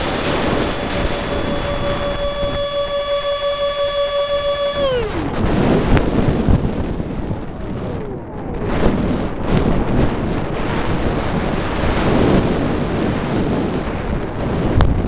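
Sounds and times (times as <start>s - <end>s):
electric ducted fan whining: 0.0s - 14.8s
wind buffeting microphone: 0.0s - 15.0s.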